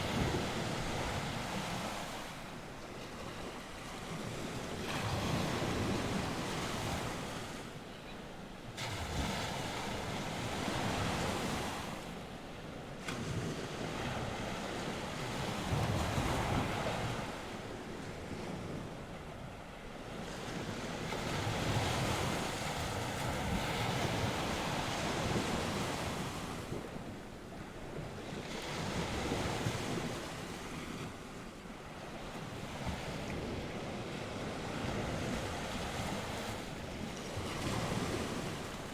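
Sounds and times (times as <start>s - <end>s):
waves washing onto shore: 0.0s - 38.9s
wind: 0.0s - 38.9s.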